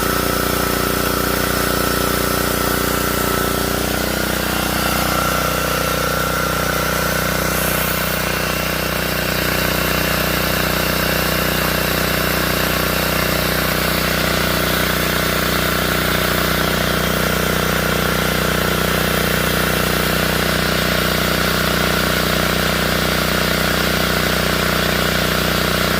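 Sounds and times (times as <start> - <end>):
small petrol engine running: 0.0 - 25.9.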